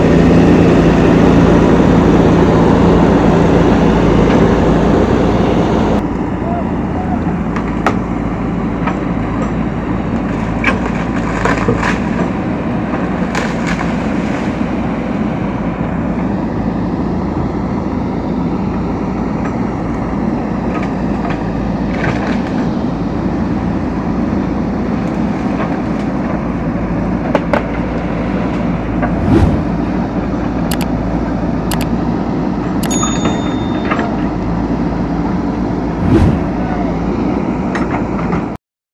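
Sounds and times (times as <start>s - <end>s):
diesel engine running under load: 0.0s - 38.6s.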